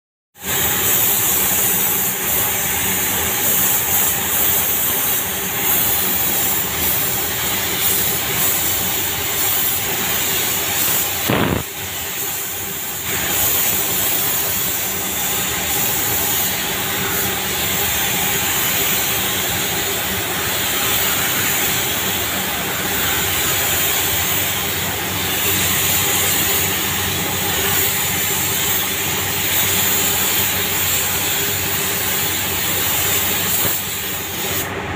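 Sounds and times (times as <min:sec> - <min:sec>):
paint spray gun air hissing: 0:00.4 - 0:34.8.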